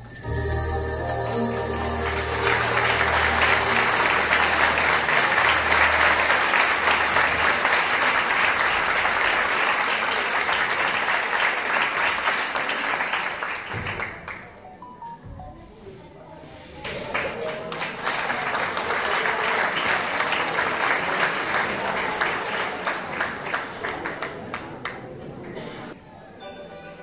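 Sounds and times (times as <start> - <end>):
audience applause: 0.3 - 14.5, 17.1 - 25.5.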